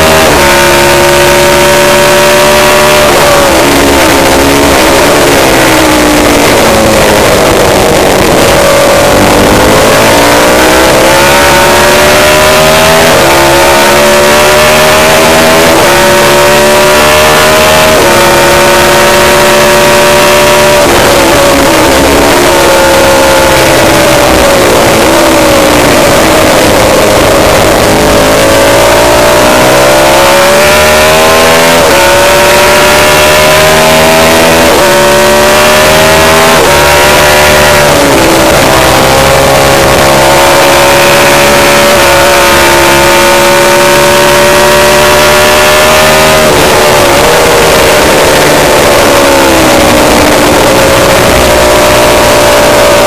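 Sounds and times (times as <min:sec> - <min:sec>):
racing motorcycle engine revving: 0:00.0 - 0:53.0.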